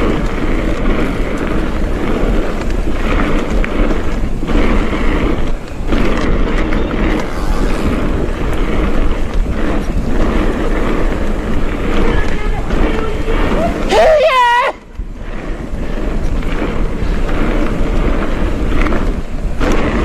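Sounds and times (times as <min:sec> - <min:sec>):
bike tyres and frame noise: 0:00.0 - 0:20.0
wind buffeting microphone: 0:00.0 - 0:20.0.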